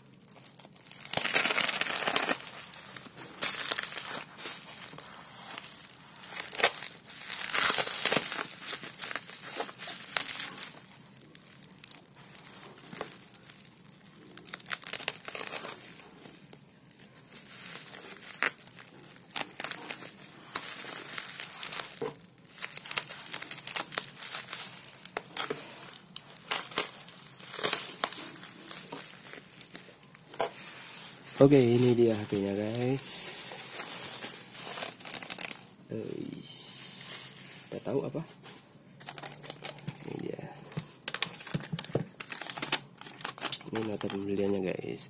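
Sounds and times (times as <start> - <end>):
bubble wrap crinkling and tearing: 0.0 - 44.7.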